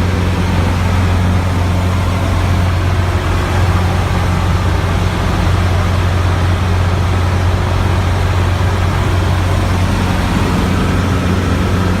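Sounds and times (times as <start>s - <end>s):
airplane engine droning: 0.0s - 12.0s
rushing air noise: 0.0s - 12.0s.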